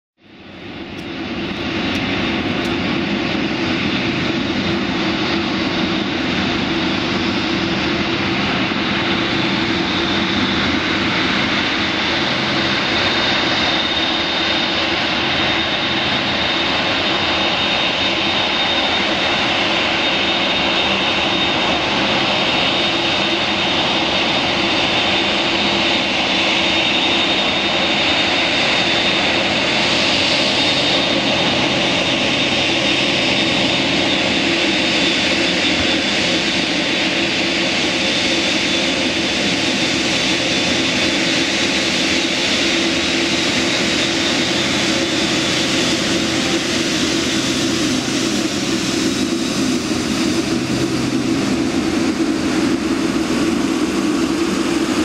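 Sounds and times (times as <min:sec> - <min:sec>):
high jet engine whine: 0:00.2 - 0:55.0
jet engines rushing: 0:00.2 - 0:55.0.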